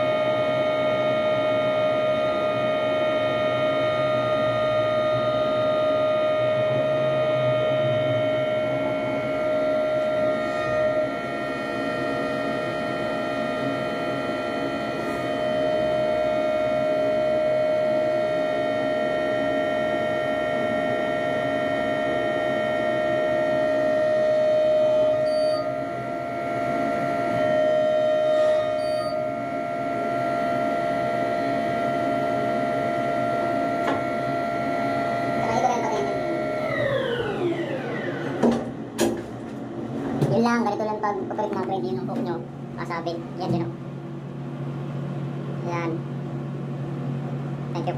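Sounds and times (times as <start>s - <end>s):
crane machinery whine: 0.0s - 47.9s.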